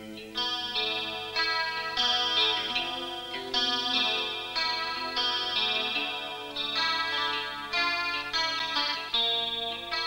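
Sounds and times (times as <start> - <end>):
instrumental held chords: 0.0 - 10.0.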